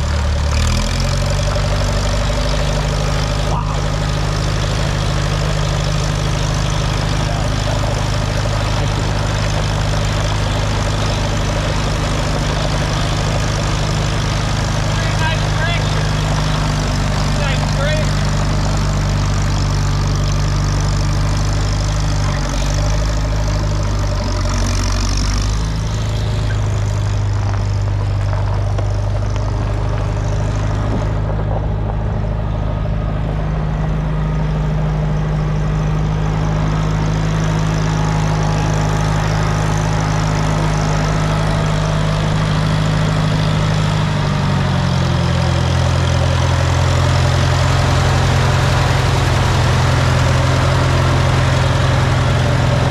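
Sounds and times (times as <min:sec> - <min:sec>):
road grader engine running: 0:00.0 - 0:52.9.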